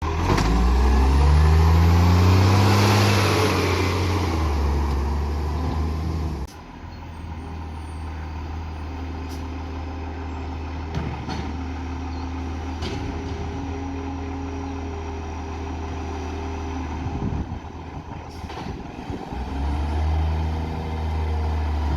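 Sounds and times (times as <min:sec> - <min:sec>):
diesel truck engine running: 0:00.0 - 0:21.9.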